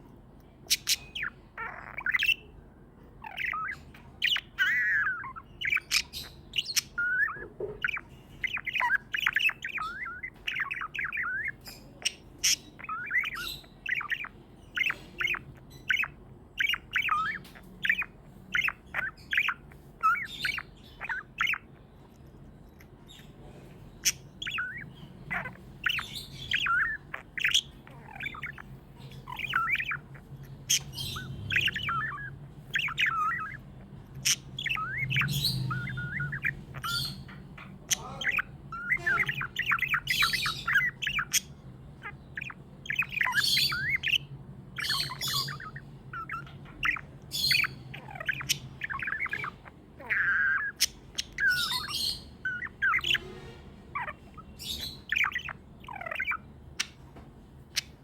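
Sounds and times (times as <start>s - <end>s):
budgerigars chirping and squawking: 0.0s - 58.0s
low steady hum: 0.0s - 58.0s.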